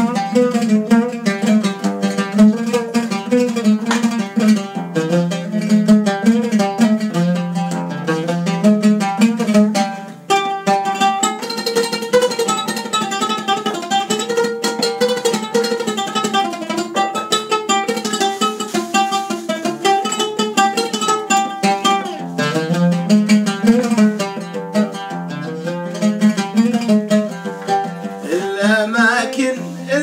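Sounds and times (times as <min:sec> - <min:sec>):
oud plucked notes: 0:00.0 - 0:30.0.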